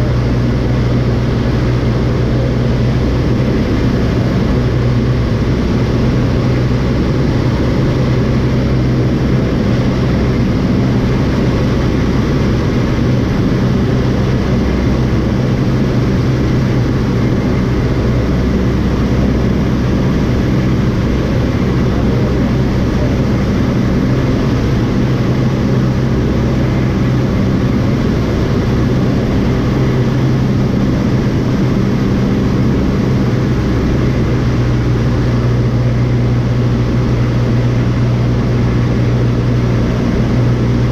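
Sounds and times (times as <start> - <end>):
light aeroplane engine and propeller: 0.0 - 40.9.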